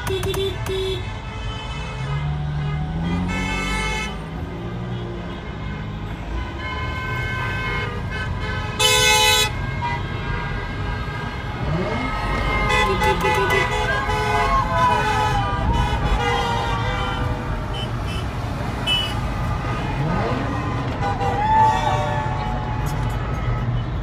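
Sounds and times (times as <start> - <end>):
car horns honking: 0.0 - 24.0.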